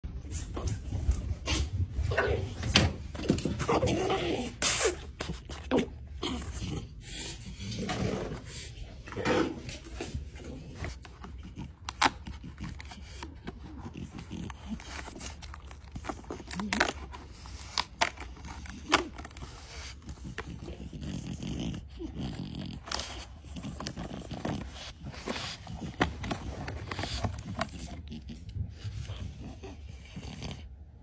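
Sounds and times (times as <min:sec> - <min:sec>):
dog sniffing and breathing: 0:04.5 - 0:31.0.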